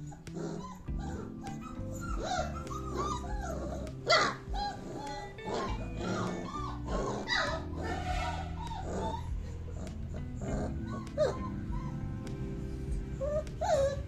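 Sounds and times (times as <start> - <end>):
puppies whining and yelping: 0.0 - 14.0.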